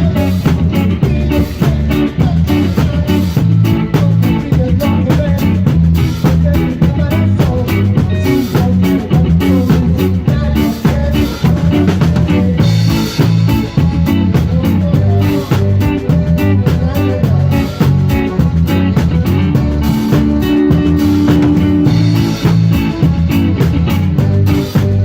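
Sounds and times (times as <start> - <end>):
live band playing: 0.0 - 25.0.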